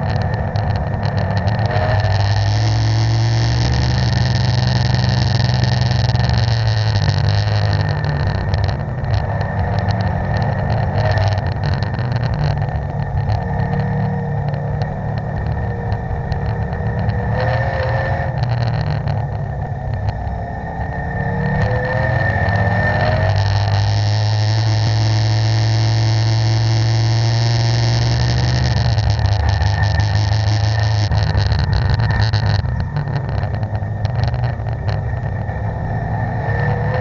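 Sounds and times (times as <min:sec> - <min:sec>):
car engine at high revs: 0:00.0 - 0:37.0
road and wind noise: 0:00.0 - 0:37.0.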